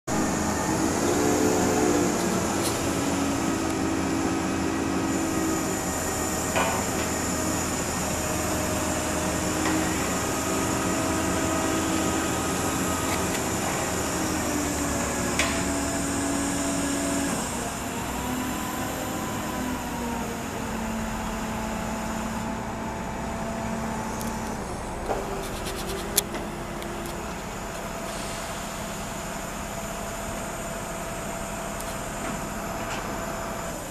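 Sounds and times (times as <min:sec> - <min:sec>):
crane engine running: 0:00.1 - 0:33.9.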